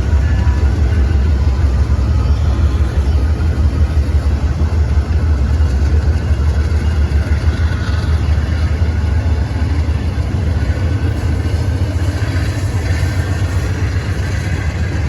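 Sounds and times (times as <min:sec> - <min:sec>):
train engine running: 0:00.0 - 0:15.0.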